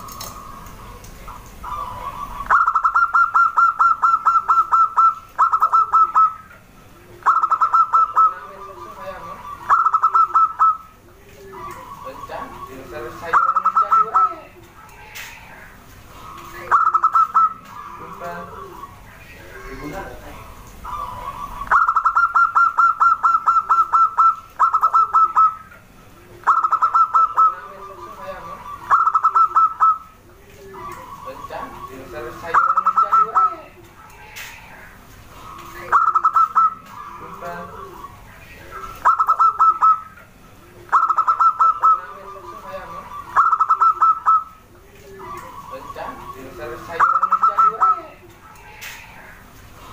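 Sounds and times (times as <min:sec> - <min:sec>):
dove calling in rapid notes: 0:00.0 - 0:49.9
low cooing: 0:00.0 - 0:49.9.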